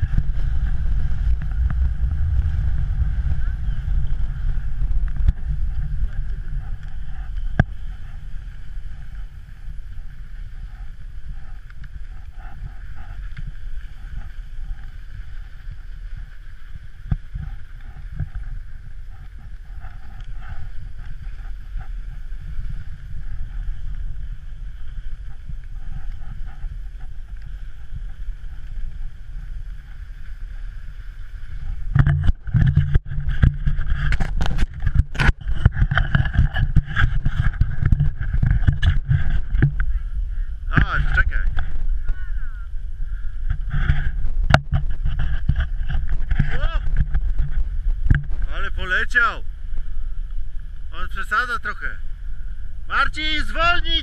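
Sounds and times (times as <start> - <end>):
skis sliding on snow: 0.0 - 54.0
wind rumbling on microphone: 0.0 - 54.0.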